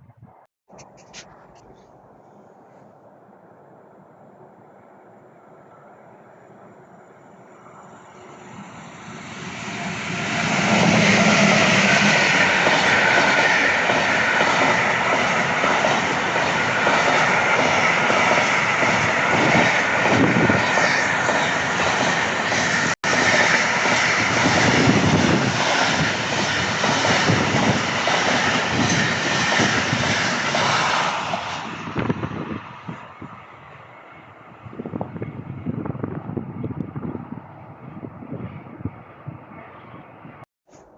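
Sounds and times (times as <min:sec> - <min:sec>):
train passing at speed: 0:02.3 - 0:40.4.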